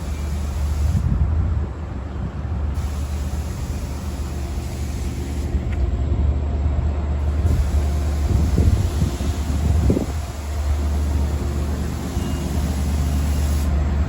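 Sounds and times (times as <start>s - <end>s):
diesel locomotive running: 0.0s - 14.0s.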